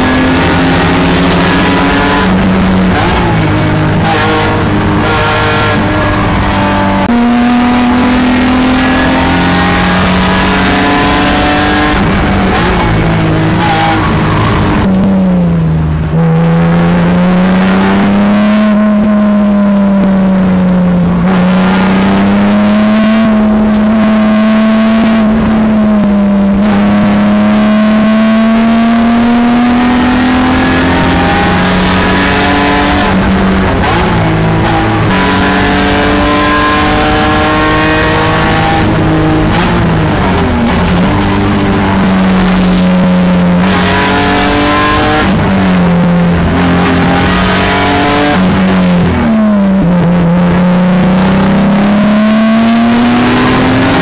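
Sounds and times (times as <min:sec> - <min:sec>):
race car engine at full load: 0:00.0 - 0:54.0.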